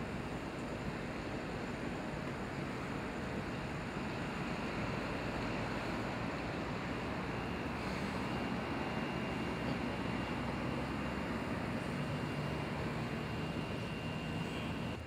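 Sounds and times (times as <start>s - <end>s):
outdoor rushing hiss: 1.8s - 14.9s.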